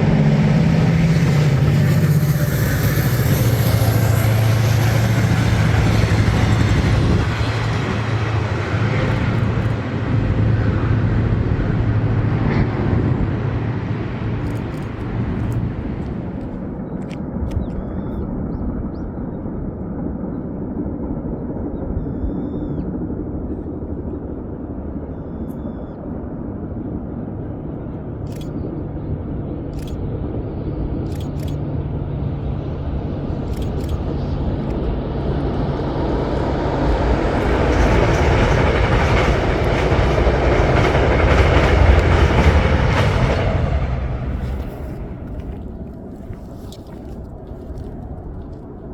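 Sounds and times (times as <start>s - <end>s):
rail noise: 0.0s - 18.2s, 23.5s - 48.9s
train engine drone: 0.0s - 48.9s.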